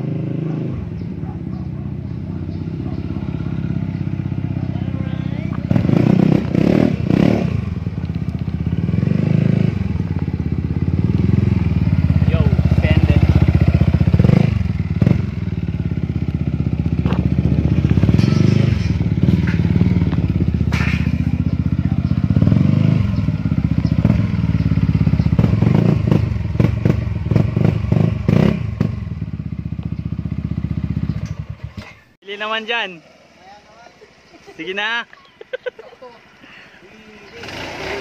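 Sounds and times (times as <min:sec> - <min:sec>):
scooter engine revving: 0:00.0 - 0:32.0, 0:32.9 - 0:38.0.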